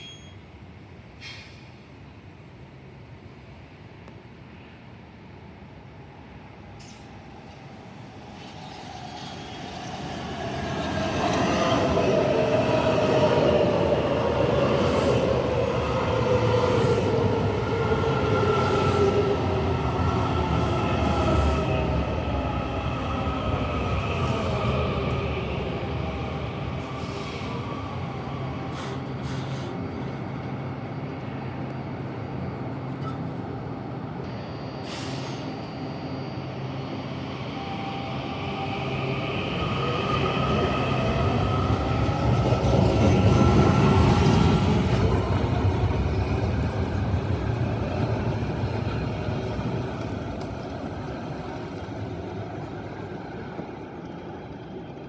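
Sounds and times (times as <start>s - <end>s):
high whine of train: 0.0s - 55.0s
train rumbling past: 6.1s - 55.0s.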